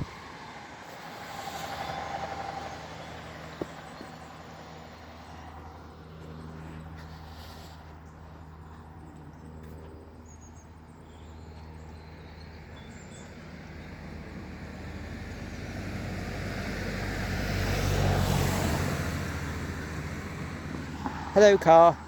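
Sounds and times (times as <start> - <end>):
car approaching on road: 0.0 - 22.0.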